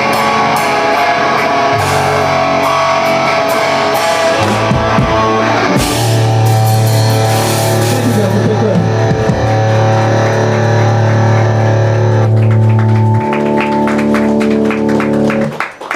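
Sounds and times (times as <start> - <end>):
bass guitar sustained notes: 0.0 - 15.6
distorted electric guitar: 0.0 - 15.6.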